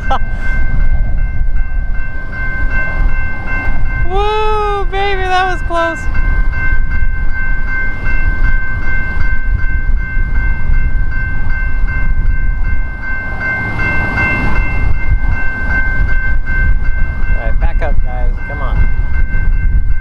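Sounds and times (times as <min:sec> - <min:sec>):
pulsing high-pitched ringing: 0:00.0 - 0:20.0
train wheels rumbling on rail: 0:00.0 - 0:20.0.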